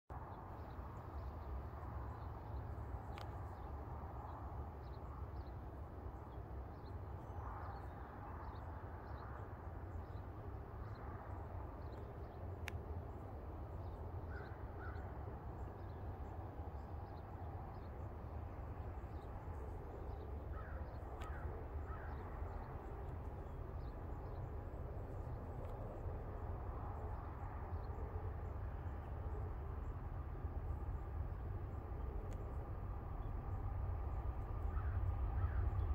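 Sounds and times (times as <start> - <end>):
steady low rumble: 0.1 - 35.9.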